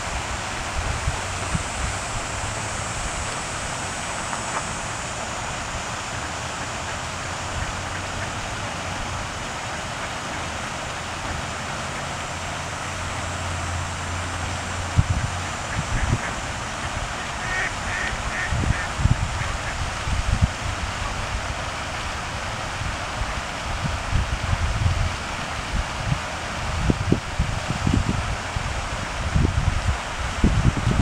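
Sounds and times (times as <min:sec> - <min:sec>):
fountain spray hissing: 0:00.0 - 0:31.0.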